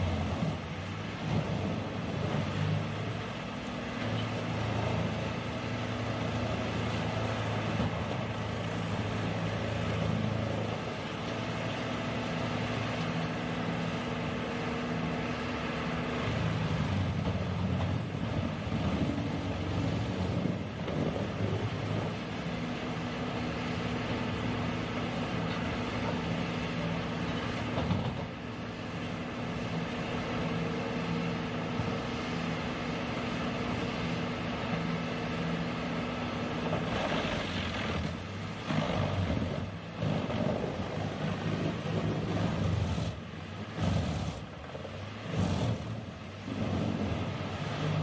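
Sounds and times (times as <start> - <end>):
large machine engine running: 0.0 - 48.0.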